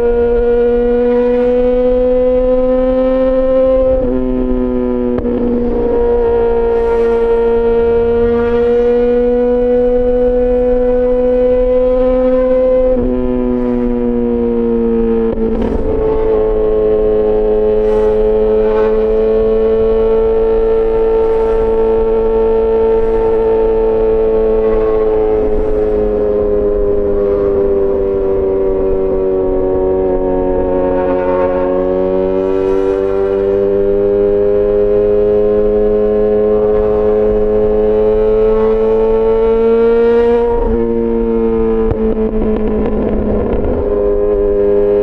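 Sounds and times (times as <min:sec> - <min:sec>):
motorcycle engine at steady revs: 0:00.0 - 0:45.0.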